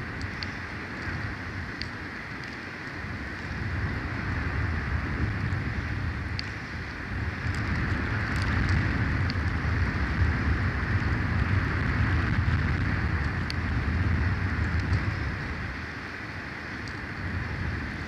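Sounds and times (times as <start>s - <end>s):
wind buffeting microphone: 0.0s - 18.0s
wind rushing through pine tree: 0.0s - 18.0s.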